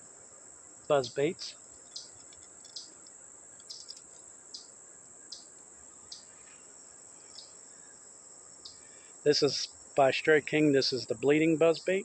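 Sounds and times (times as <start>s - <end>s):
insects trilling: 0.0s - 12.0s
short insect chirps: 0.0s - 12.0s.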